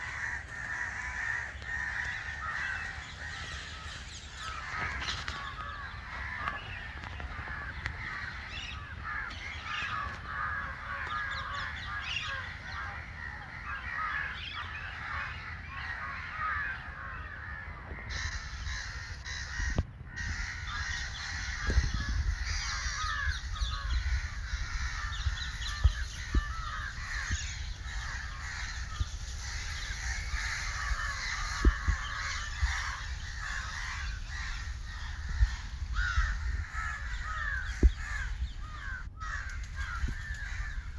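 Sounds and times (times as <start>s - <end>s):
birds calling: 0.0s - 40.9s
crows cawing: 0.0s - 40.9s
low wind rumble on microphone: 0.0s - 40.9s.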